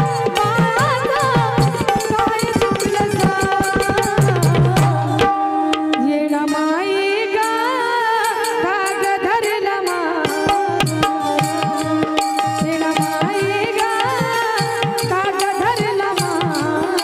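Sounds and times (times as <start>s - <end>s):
woman singing through pa: 0.0s - 17.0s.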